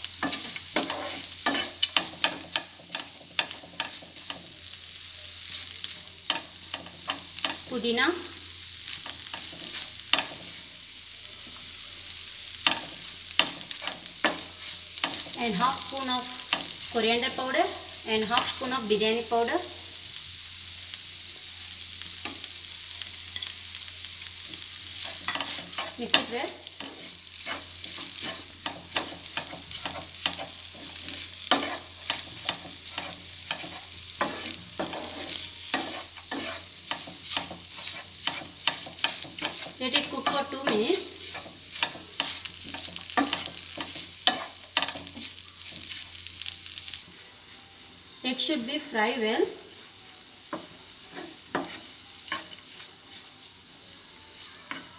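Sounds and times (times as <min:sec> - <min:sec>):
spatula scraping a pan: 0:00.0 - 0:07.8, 0:08.5 - 0:19.3, 0:21.8 - 0:47.1, 0:50.6 - 0:54.9
vegetables sizzling in hot oil: 0:00.0 - 0:54.9.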